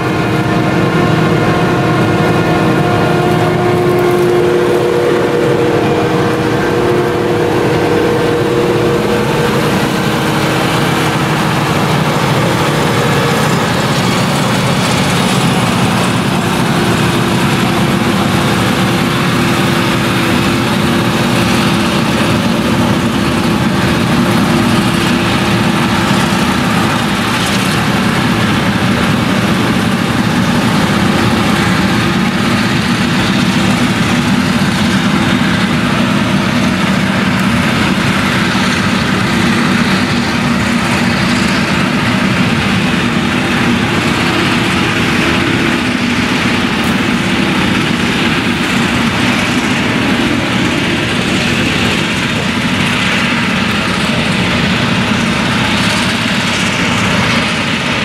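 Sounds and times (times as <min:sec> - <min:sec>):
chopper rushing: 0:00.0 - 0:58.0
harvester engine droning: 0:00.0 - 0:58.0.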